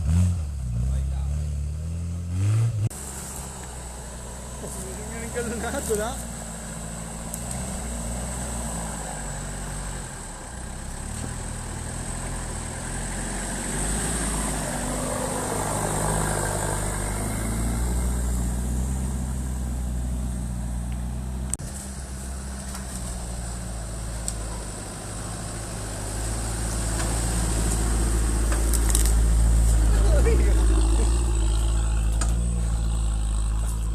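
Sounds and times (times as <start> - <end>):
engine running at low revs: 0.0 - 33.9.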